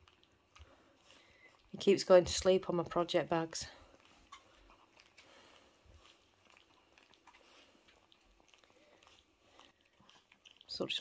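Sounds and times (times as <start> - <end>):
cat licking fur: 0.0 - 11.0.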